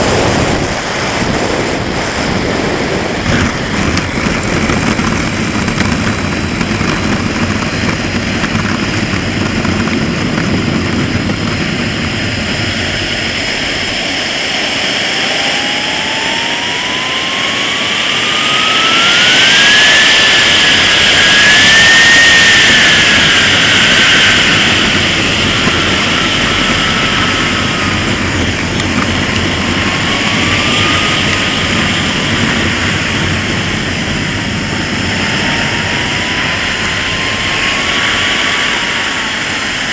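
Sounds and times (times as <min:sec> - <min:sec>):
jet turbine high-pitched whine: 0:00.0 - 0:39.9.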